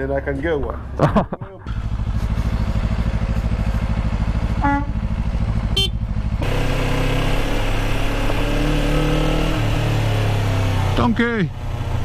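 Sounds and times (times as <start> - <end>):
motorcycle engine: 1.0 - 12.0.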